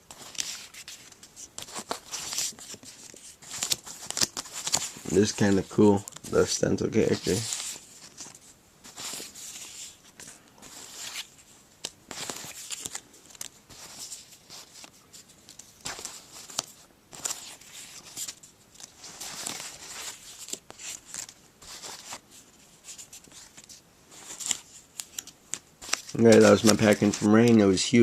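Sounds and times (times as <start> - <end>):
paper rustling and sliding: 0.0 - 28.0.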